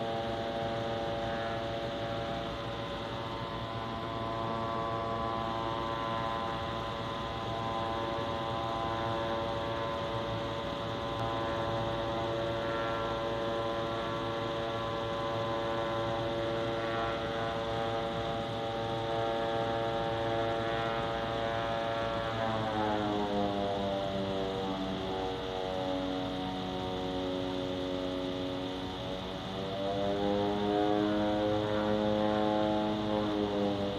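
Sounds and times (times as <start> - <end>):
droning hum from the sky: 0.0 - 33.9.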